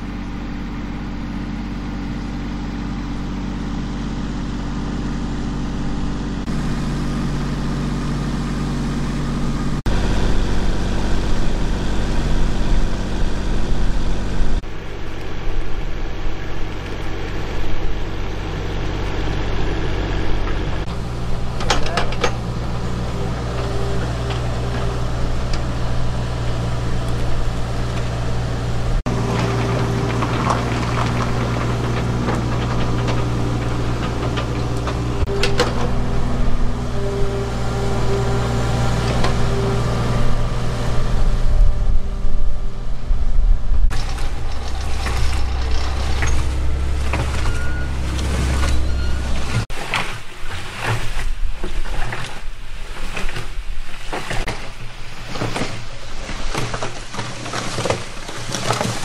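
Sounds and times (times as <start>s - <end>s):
machinery engines running: 0.0s - 59.0s.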